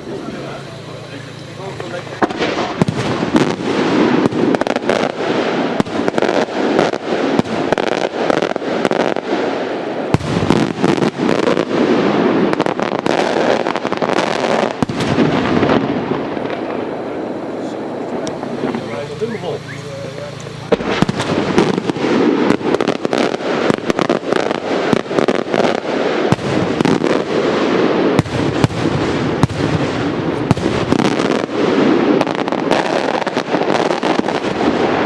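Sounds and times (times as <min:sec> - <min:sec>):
firework crackling: 0:00.0 - 0:35.0
firework shells bursting: 0:00.0 - 0:35.0.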